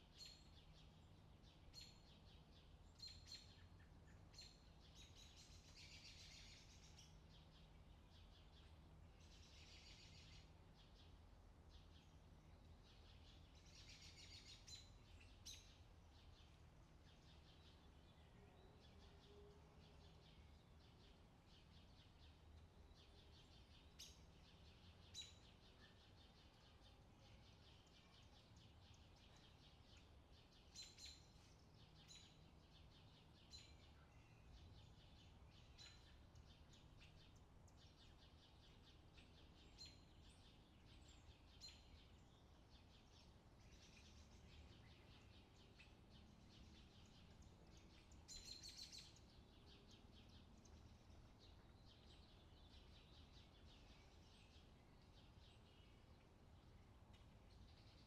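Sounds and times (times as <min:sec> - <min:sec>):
low steady background hum: 0:00.0 - 0:58.0
small birds chirping: 0:00.0 - 0:58.0.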